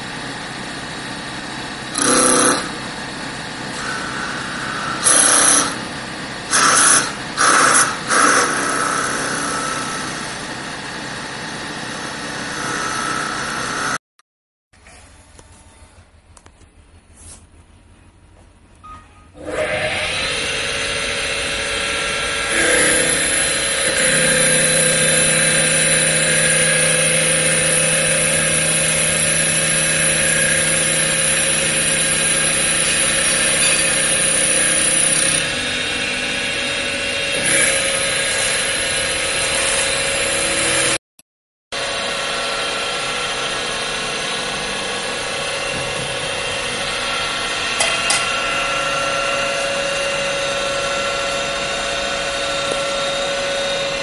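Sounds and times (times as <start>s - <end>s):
wood-turning machine whining: 0.0s - 14.0s, 19.4s - 41.0s, 41.8s - 54.0s.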